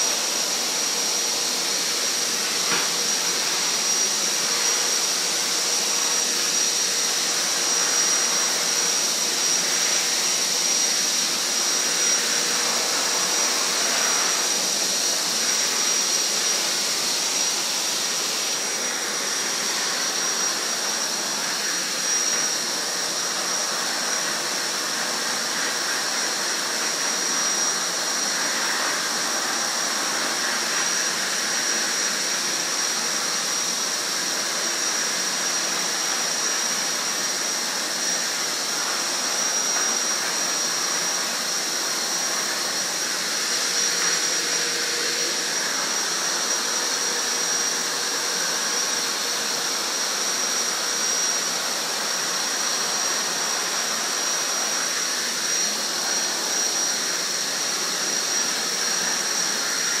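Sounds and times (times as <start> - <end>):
vacuum cleaner running: 0.0 - 60.0.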